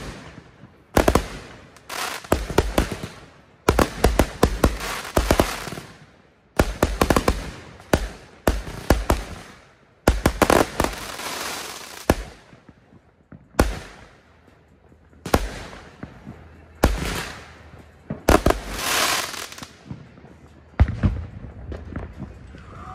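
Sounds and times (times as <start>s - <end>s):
fireworks bangs: 0.0s - 14.1s, 15.2s - 22.9s.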